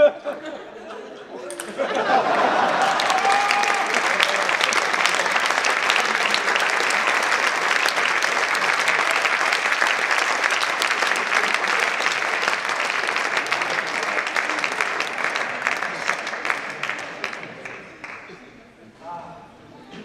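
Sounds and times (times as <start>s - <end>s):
audience applauding: 1.6s - 18.4s.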